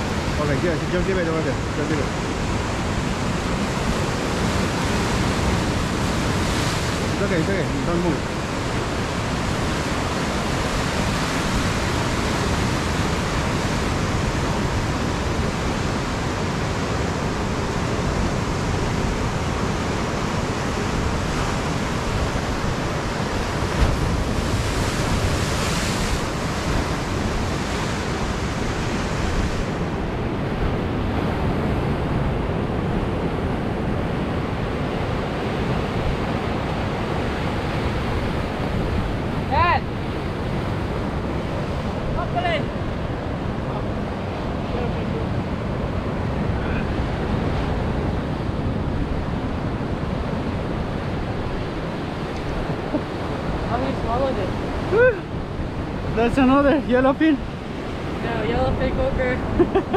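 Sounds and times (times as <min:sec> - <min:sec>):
surf breaking over rocks: 0:00.0 - 0:59.9.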